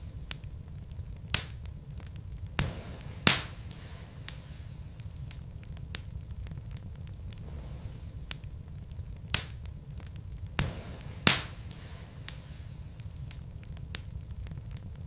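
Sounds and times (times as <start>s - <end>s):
burning logs popping: 0.0s - 15.0s
fire low rumble: 0.0s - 15.0s
wood fire crackling: 0.0s - 15.0s.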